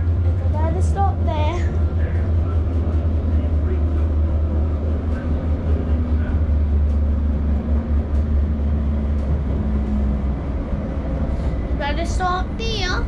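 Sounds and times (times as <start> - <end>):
tram rumble: 0.0 - 13.0.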